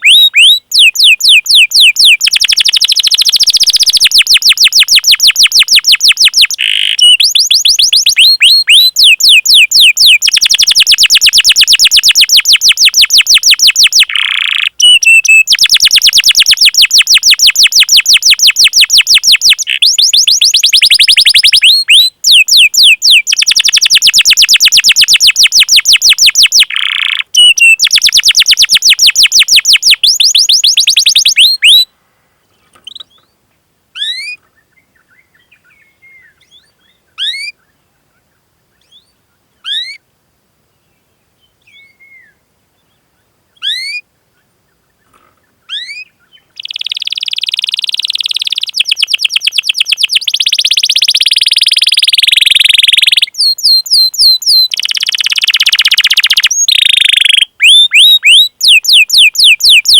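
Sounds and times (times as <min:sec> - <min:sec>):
canary singing: 0:00.0 - 0:31.9, 0:32.8 - 0:33.3, 0:34.0 - 0:37.6, 0:45.7 - 0:59.9.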